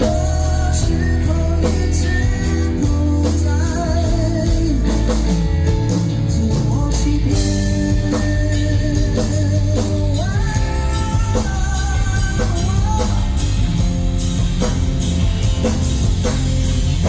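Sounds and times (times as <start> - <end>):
live rock band playing ballad: 0.0 - 17.0
sliding lead melody: 0.0 - 17.0.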